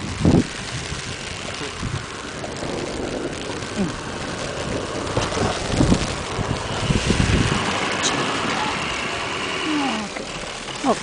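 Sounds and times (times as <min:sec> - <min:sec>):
wind buffeting microphone: 0:00.0 - 0:10.8
snow-removal vehicle running: 0:00.0 - 0:11.0.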